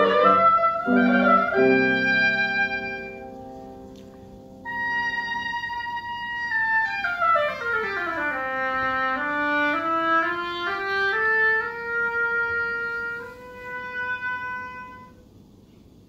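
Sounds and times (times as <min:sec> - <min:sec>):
oboe playing solo: 0:00.0 - 0:04.0, 0:04.6 - 0:15.2.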